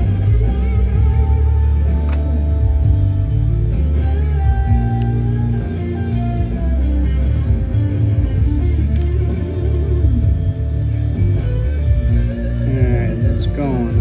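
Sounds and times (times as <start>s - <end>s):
rock music with guitar: 0.0s - 14.0s.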